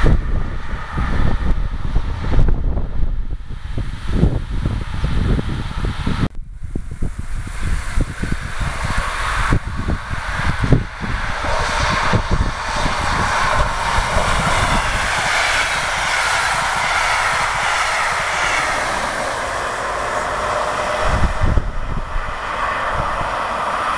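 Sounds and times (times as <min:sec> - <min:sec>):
train rumbling over rails: 0:00.0 - 0:23.9
wind thumps on microphone: 0:00.0 - 0:23.9.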